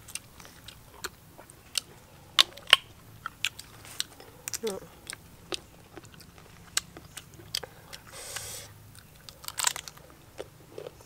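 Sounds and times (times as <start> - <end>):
crunchy chewing of fruit: 0.0 - 11.0.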